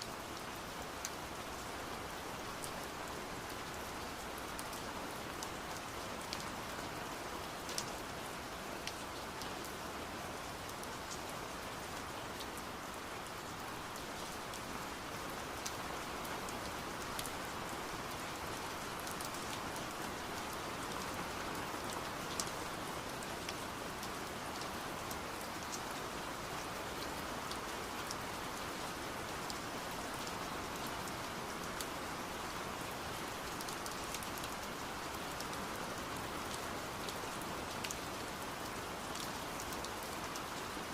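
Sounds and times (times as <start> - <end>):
rain through a window: 0.0 - 40.9.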